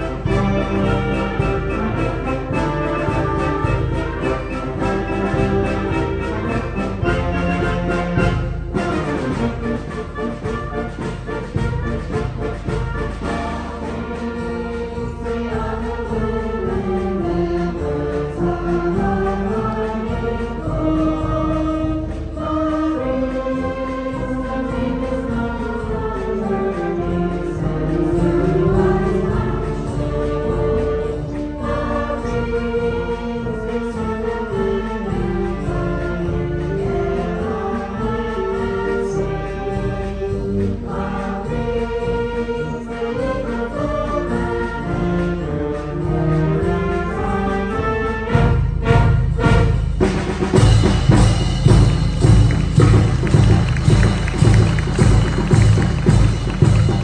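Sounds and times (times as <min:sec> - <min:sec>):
choir singing: 0:00.0 - 0:49.9, 0:50.5 - 0:57.0
concert band playing a march: 0:00.0 - 0:57.0.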